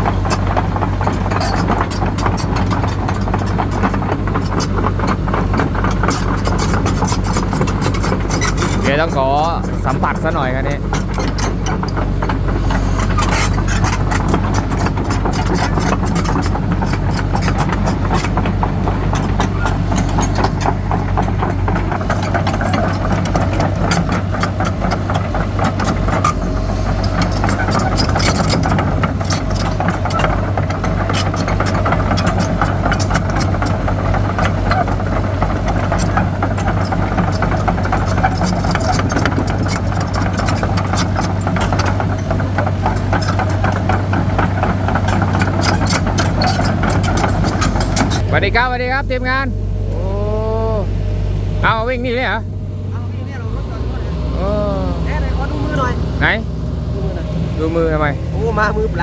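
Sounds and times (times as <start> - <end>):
short clicks and rattles: 0.0 - 48.3
excavator diesel engine running: 0.0 - 59.0.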